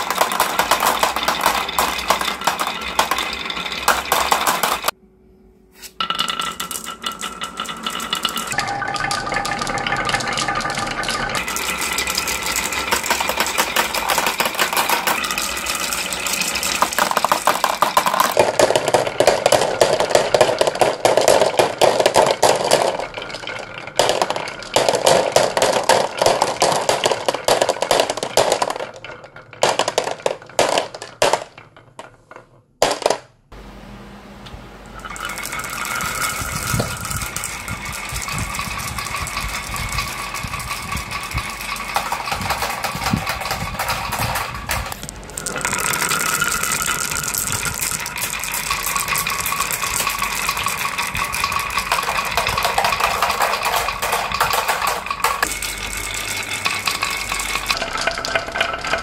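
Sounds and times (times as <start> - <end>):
glass marbles rolling on wood: 0.0 - 5.0, 6.0 - 33.2, 35.0 - 59.0
marbles clicking: 0.0 - 5.0, 6.0 - 33.2, 35.0 - 59.0
marbles dropping into plastic truck: 0.0 - 5.0, 6.0 - 33.3, 35.0 - 59.0.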